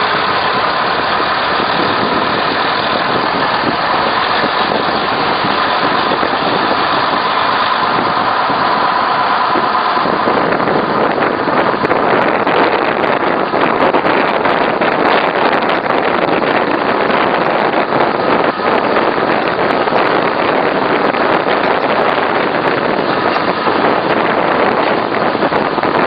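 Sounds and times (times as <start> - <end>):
train mechanical hum and whine: 0.0 - 26.0
wind buffeting on microphone: 0.0 - 26.0.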